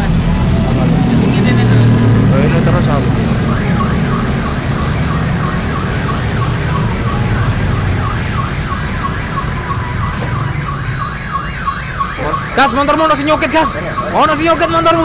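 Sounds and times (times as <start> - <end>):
electronic siren sweeping: 0.0 - 15.0
street traffic rumble: 0.0 - 15.0.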